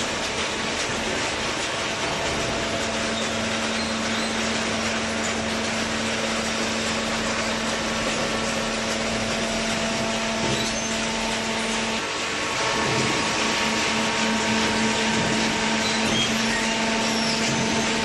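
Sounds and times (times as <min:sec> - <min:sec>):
baler machine running: 0:00.0 - 0:18.0.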